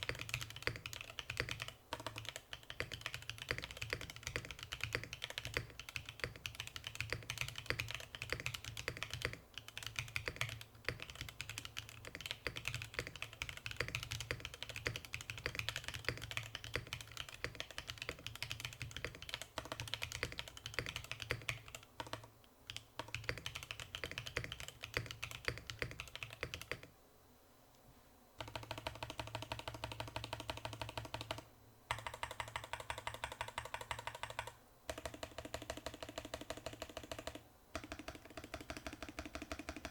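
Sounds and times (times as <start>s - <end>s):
mechanical keyboard typing: 0.0s - 26.9s, 28.4s - 39.9s.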